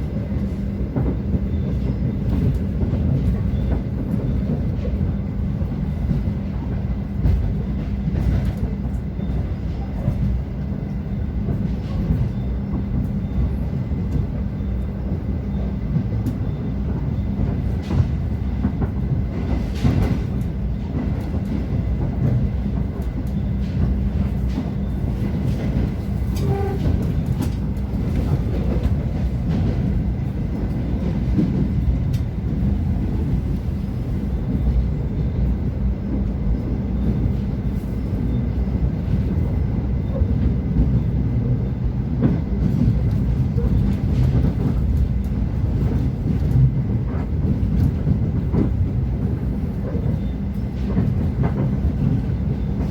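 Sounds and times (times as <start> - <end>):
train wheels rumbling: 0.0 - 52.9.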